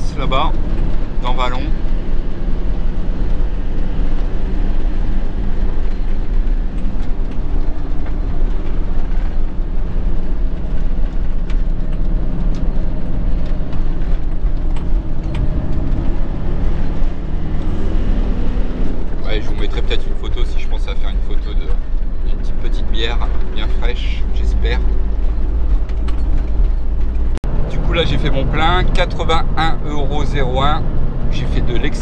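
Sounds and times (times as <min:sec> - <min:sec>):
tyre noise on road: 0:00.0 - 0:32.0
vehicle engine running: 0:00.0 - 0:32.0.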